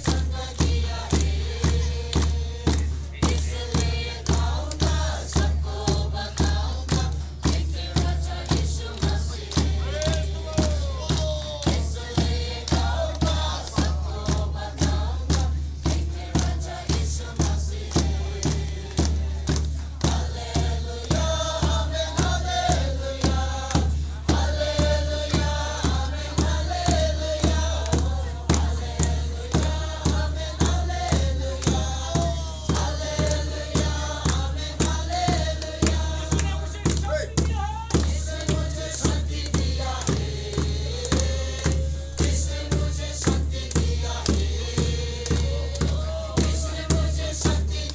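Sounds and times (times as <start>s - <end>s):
bass drum beat: 0.0s - 47.9s
group singing gospel song: 0.0s - 47.9s
hand clapping: 0.0s - 47.9s.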